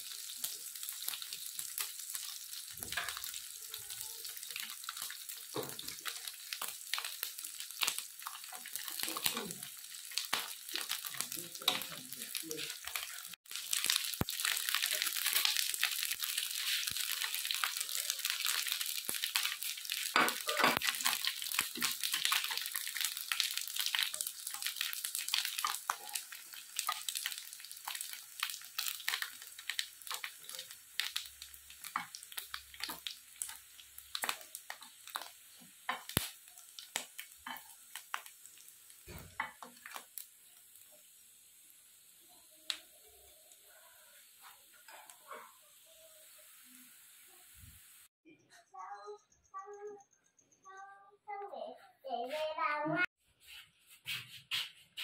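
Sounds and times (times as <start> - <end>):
food sizzling in a pan: 0.0 - 48.2.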